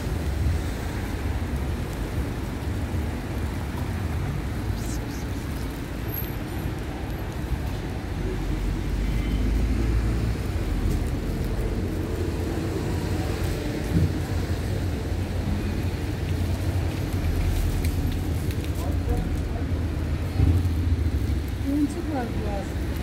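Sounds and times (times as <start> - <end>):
low rumble of street traffic: 0.0 - 23.0.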